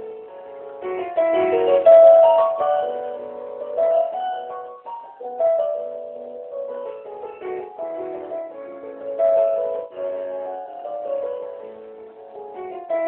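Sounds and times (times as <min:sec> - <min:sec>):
electronic keyboard playing tango: 0:00.0 - 0:13.0.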